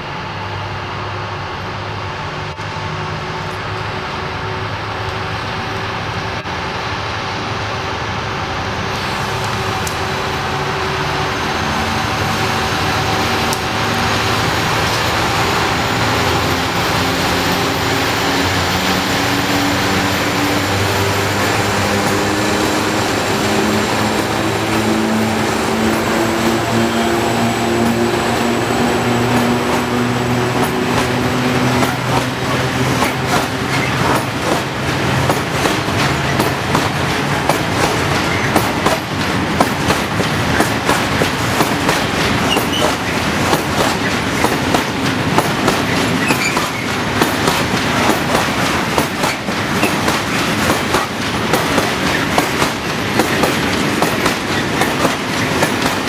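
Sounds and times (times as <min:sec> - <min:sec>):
diesel locomotives accelerating: 0:00.0 - 0:56.0.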